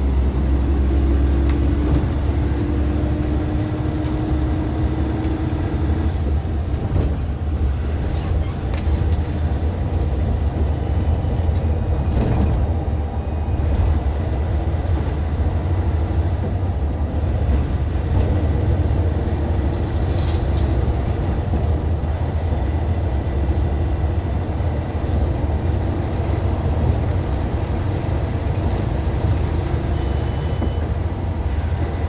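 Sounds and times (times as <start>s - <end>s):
diesel bus engine droning: 0.0s - 32.0s.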